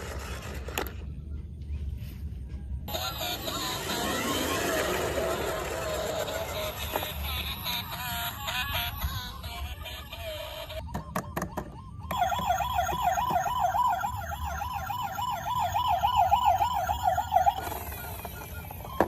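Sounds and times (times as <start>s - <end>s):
electronic toy siren wailing: 2.9s - 19.0s.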